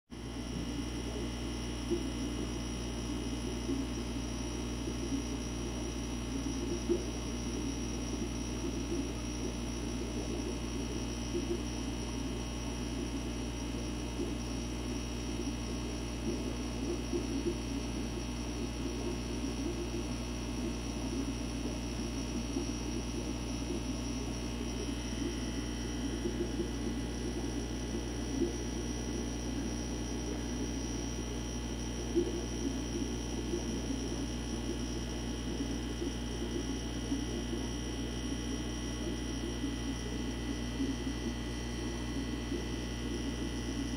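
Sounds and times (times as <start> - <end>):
aquarium equipment humming: 0.1 - 43.9.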